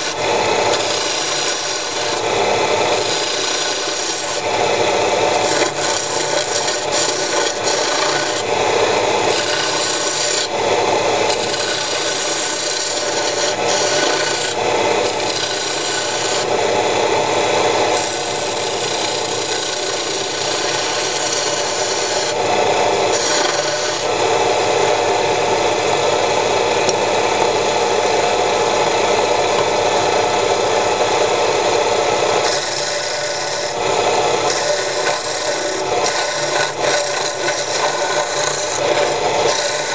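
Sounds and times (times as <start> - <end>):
tool cutting spinning wood: 0.0 - 39.9
wood lathe motor running: 0.0 - 39.9.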